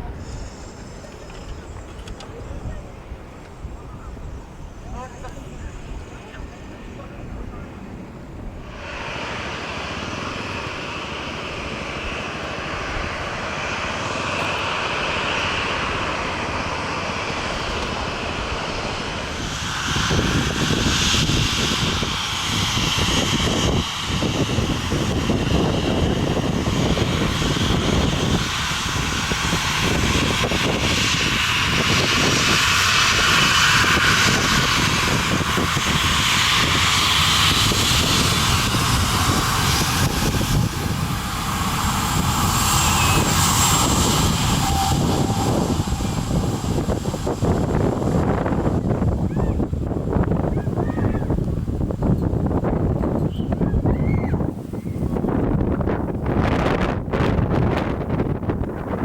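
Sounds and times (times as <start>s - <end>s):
airliner engines running: 0.0s - 59.0s.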